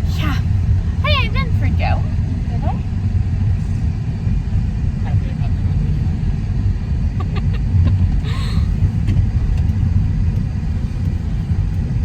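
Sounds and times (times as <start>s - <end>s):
car road rumble on wet roads: 0.0s - 12.0s.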